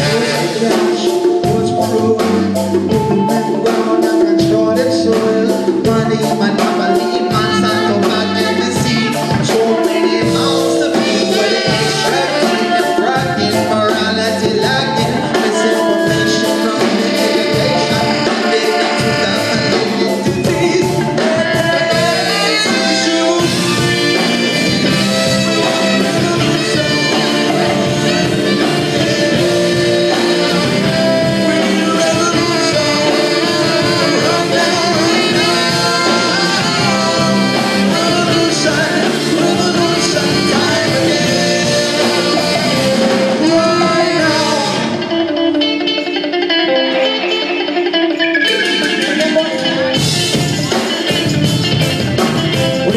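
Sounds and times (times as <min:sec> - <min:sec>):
electric guitar: 0:00.0 - 0:52.9
live rock band playing: 0:00.0 - 0:52.9.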